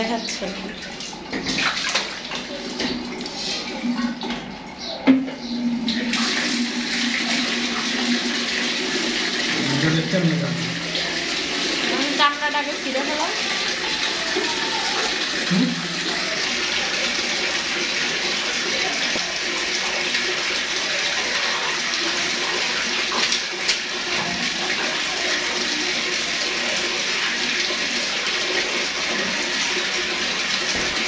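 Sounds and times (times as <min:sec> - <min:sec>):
tap water splashing into bucket: 0:00.3 - 0:12.2, 0:13.4 - 0:31.0.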